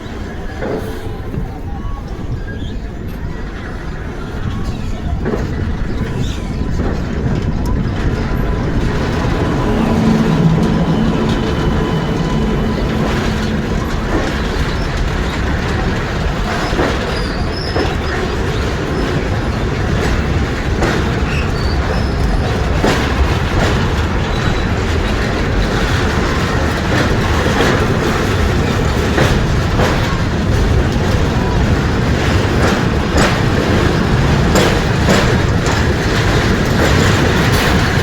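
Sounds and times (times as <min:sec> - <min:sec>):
rail joint clicks and knocks: 0:00.0 - 0:38.0
train wheels rumbling on track: 0:00.0 - 0:38.0.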